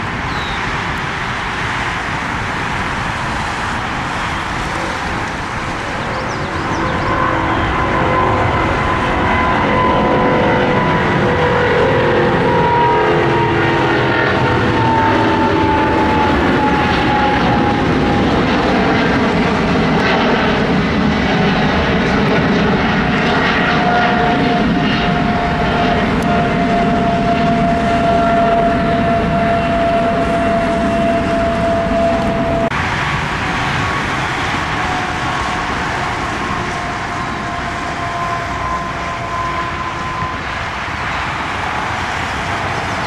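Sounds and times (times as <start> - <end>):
airplane engines passing: 0.0 - 43.0
high engine whine: 0.0 - 43.0.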